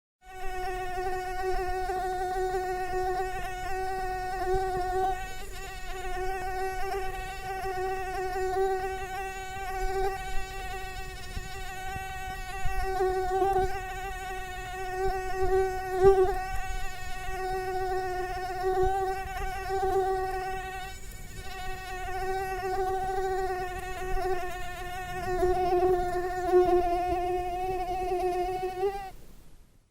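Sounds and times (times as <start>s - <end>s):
mosquito buzzing: 0.2s - 29.2s.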